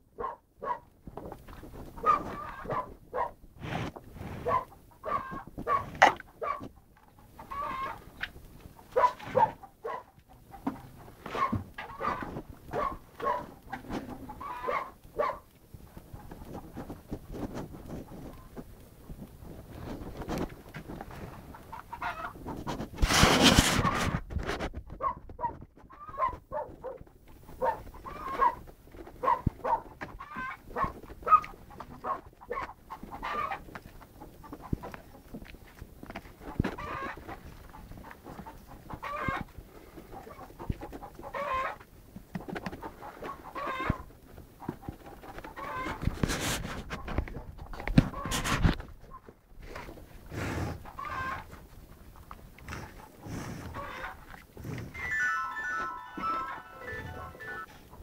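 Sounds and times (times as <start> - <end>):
chickens clucking: 0.2 - 3.3, 4.2 - 18.8, 19.4 - 24.2, 25.0 - 46.2, 46.9 - 58.0.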